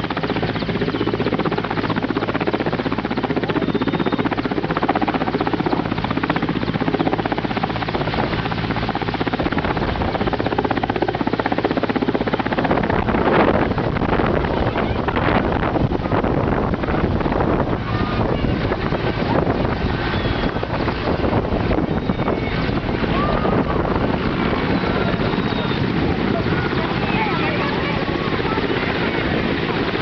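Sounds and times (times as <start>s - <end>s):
helicopter turbine engines and rotor: 0.0s - 30.0s
wind noise on microphone: 0.0s - 30.0s.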